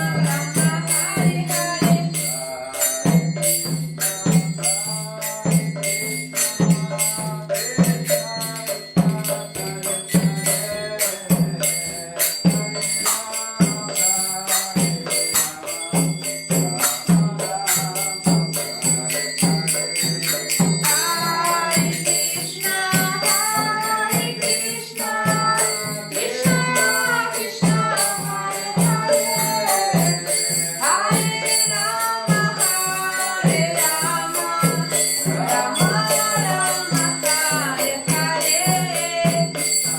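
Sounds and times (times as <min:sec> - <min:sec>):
drum beat: 0:00.0 - 0:39.9
jingling hand percussion: 0:00.0 - 0:39.9
voices singing a chant: 0:00.0 - 0:39.9.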